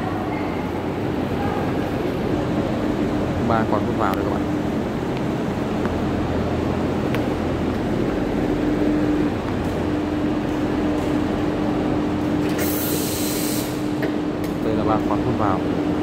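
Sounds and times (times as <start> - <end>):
industrial ventilation fans running: 0.0 - 16.0.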